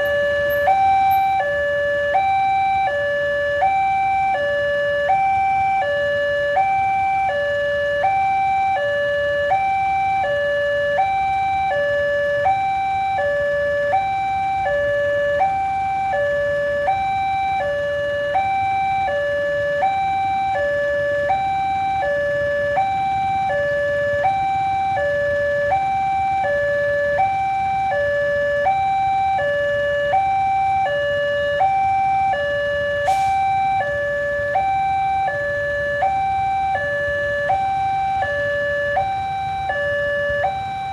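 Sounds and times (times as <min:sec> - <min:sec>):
two-tone crossing alarm: 0:00.0 - 0:40.9.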